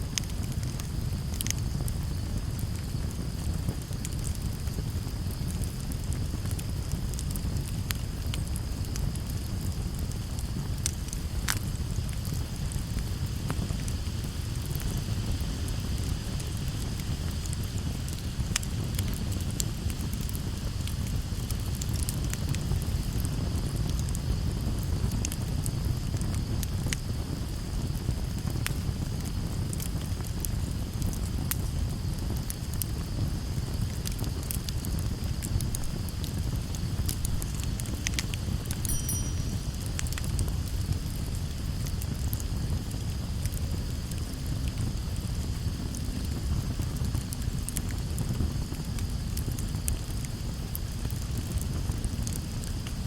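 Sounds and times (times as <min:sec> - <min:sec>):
campfire crackling and popping: 0:00.0 - 0:53.0
campfire low rumble: 0:00.0 - 0:53.0.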